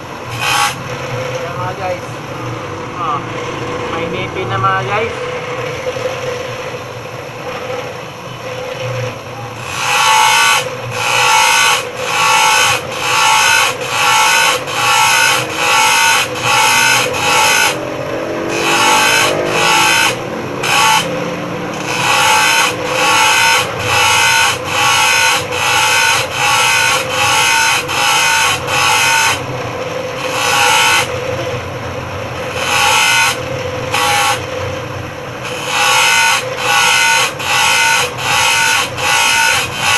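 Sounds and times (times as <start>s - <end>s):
saw blade grinding on wheel: 0.0s - 2.0s, 4.0s - 39.9s
bench grinder motor running: 0.0s - 39.9s.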